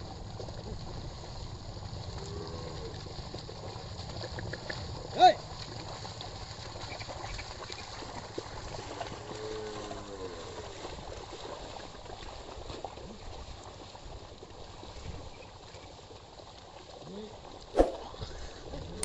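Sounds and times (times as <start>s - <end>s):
hooves and plough splashing in mud: 0.0s - 19.0s.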